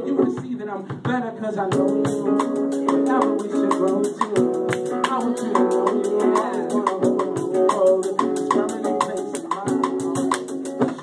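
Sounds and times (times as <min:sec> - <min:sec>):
acoustic guitar chords: 0:00.0 - 0:11.0
drum kit: 0:00.0 - 0:11.0.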